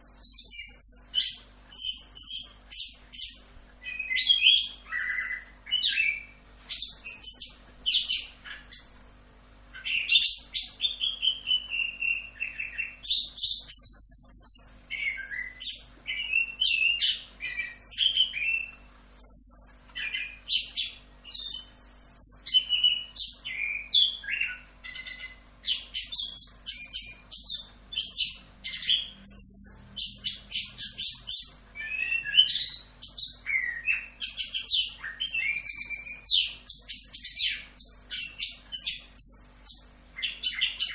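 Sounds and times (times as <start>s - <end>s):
thrush singing whistles: 0.0s - 8.9s, 9.9s - 40.9s.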